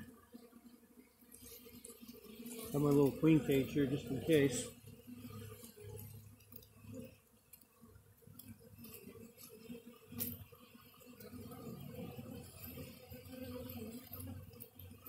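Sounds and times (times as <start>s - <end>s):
honeybee swarm humming: 0.0s - 15.0s.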